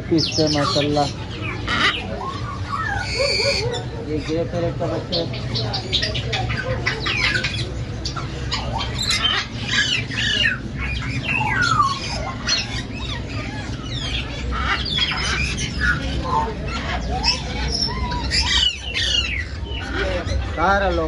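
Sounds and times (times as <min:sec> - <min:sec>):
parrots squawking: 0:00.0 - 0:21.0.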